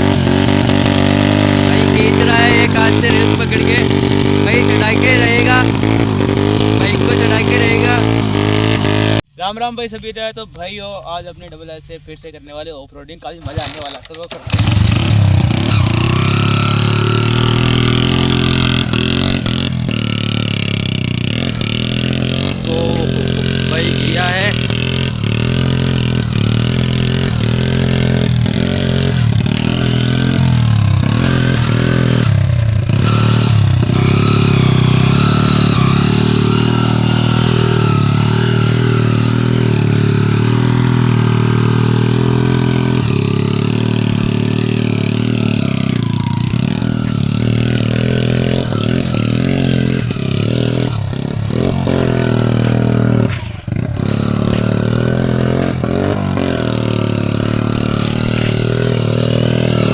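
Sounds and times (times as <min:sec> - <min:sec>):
motorcycle engine revving: 0:00.0 - 0:09.3, 0:13.2 - 0:59.9.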